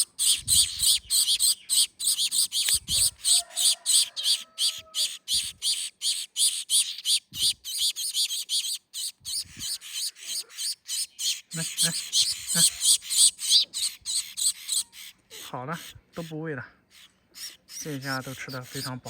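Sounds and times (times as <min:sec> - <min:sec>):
finch chicks begging calls: 0:00.0 - 0:19.0.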